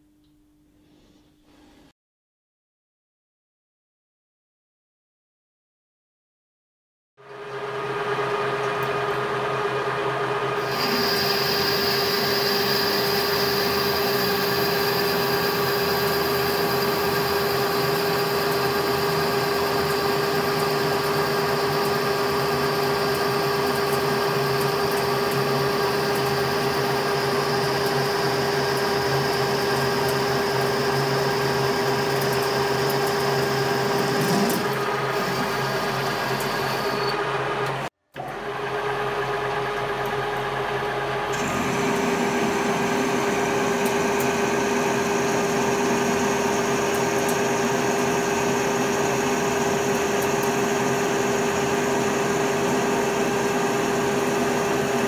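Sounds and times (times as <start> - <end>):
metal lathe whining: 10.6 - 55.0.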